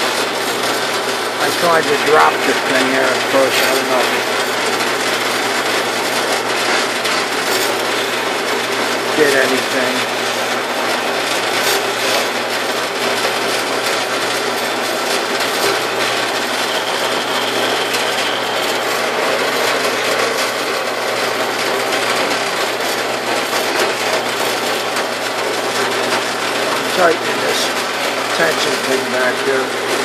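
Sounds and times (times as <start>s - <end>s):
bandsaw motor hum: 0.0s - 30.0s.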